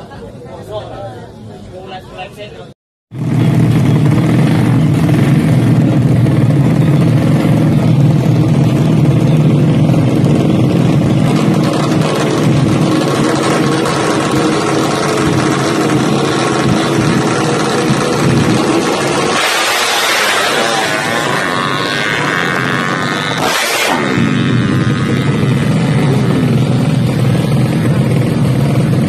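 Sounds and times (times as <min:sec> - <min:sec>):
scooter engine running loud: 0:03.2 - 0:29.0.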